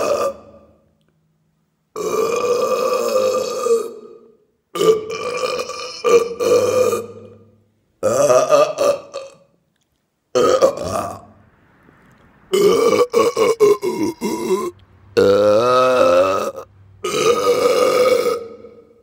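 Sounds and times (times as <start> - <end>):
man burping: 0.0 - 0.8, 2.0 - 9.5, 10.3 - 11.3, 12.5 - 19.0.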